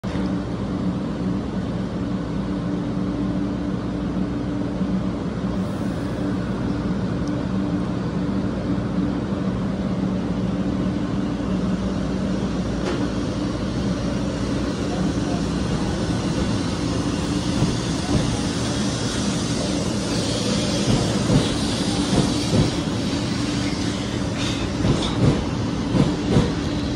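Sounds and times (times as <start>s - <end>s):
train two-tone mechanical hum: 0.0s - 26.9s
train rumbling: 3.6s - 26.9s.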